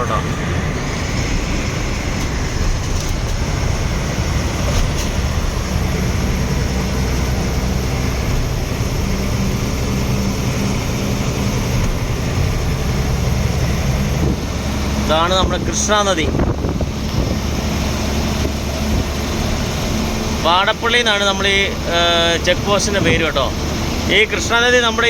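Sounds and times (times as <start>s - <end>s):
road and wind noise: 0.0s - 25.0s
truck diesel engine drone: 0.0s - 25.0s.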